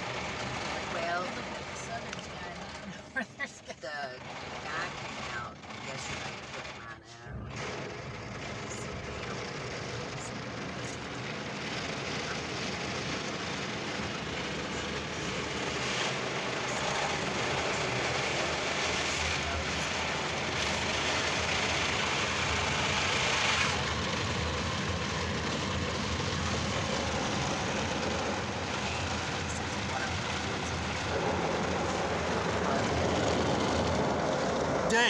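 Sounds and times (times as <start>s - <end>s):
car wash water spray and machinery: 0.0s - 35.0s.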